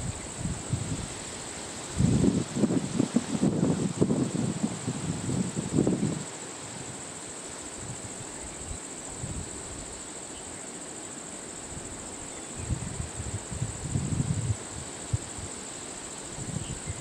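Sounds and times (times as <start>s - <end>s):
insect chorus buzzing: 0.0s - 17.0s
outdoor hiss: 0.0s - 17.0s.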